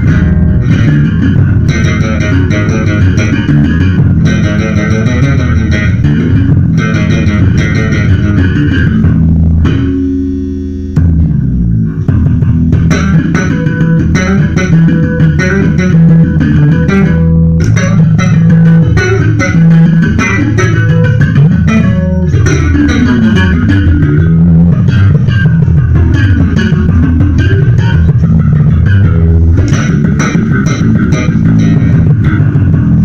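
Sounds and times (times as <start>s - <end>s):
slap bass guitar: 0.0s - 33.0s.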